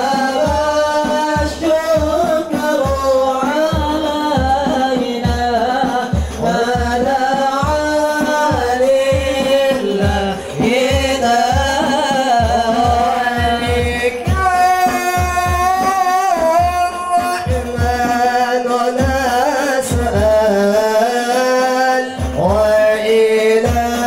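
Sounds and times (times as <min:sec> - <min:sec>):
frame drums beating: 0:00.0 - 0:24.0
men singing devotional song: 0:00.0 - 0:24.0.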